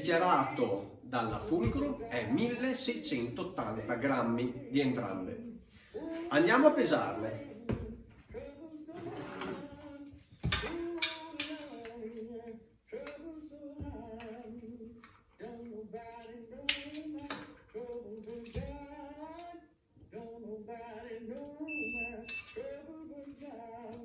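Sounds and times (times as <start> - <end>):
person singing slow melody: 4.4 - 24.0.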